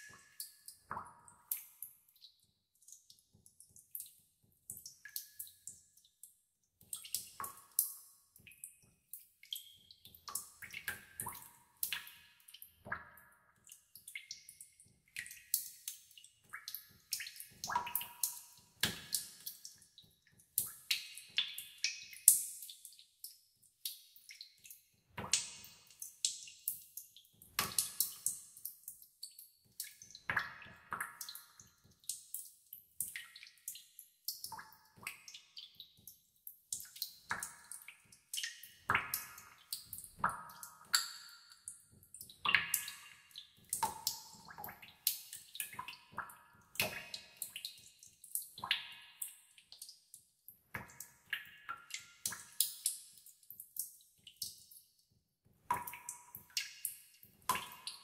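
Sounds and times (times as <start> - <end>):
water dripping in a cave: 0.0 - 58.0.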